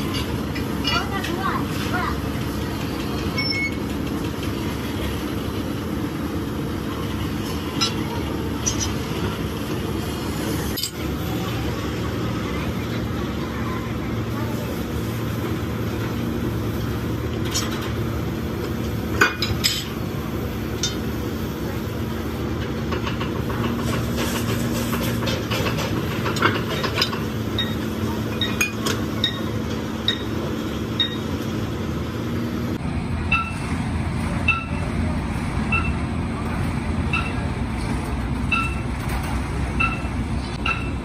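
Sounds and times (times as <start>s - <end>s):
hydraulic press humming: 0.0s - 41.0s.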